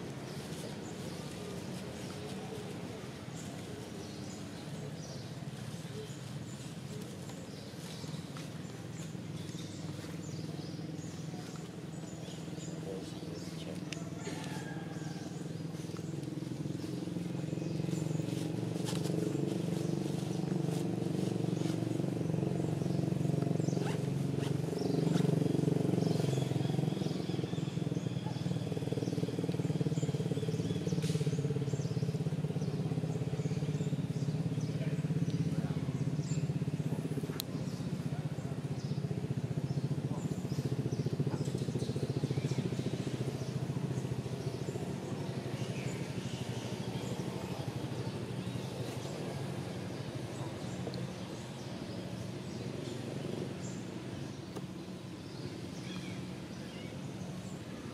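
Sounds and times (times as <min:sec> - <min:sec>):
vehicle engine hum: 0:00.0 - 0:57.9.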